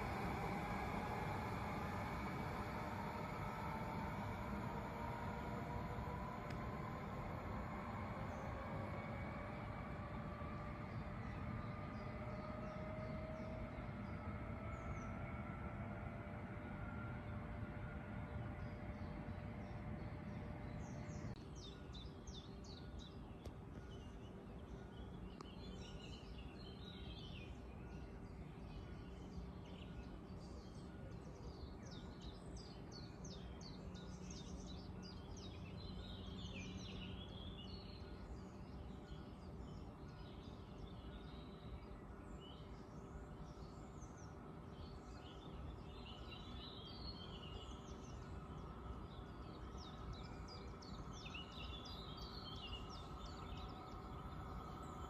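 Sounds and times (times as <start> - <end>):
faint steady tones: 0.0 - 25.6, 27.5 - 55.0
low background rumble: 0.0 - 55.0
small birds chirping: 0.0 - 55.0.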